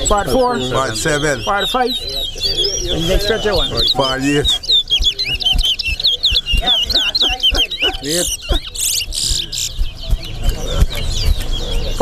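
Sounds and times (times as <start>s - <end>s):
finch singing whistled notes: 0.0s - 12.0s
murmur of voices: 0.0s - 12.0s.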